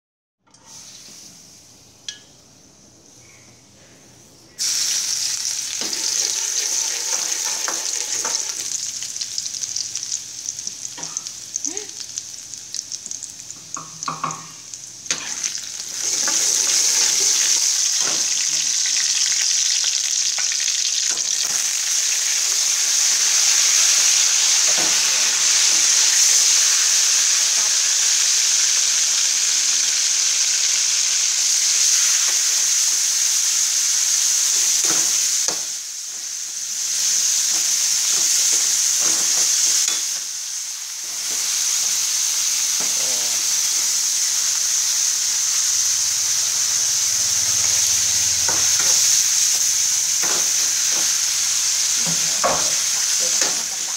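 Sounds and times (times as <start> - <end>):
oil sizzling in wok: 0.5 - 2.4, 4.5 - 53.9.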